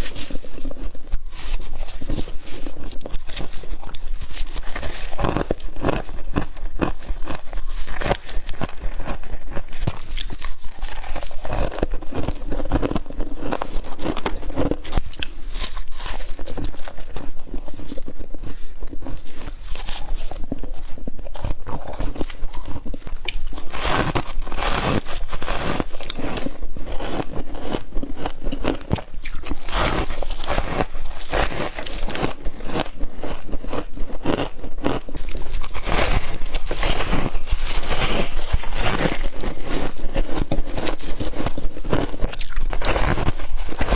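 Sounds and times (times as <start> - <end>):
frost crunching when chewed: 0.0 - 43.9.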